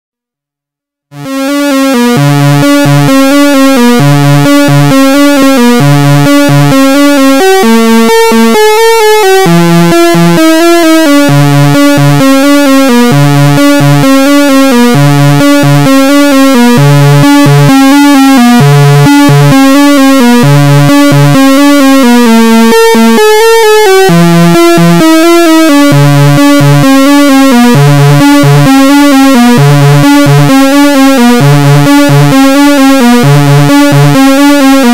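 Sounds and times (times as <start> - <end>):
synthesizer sequenced pattern: 1.1 - 34.9.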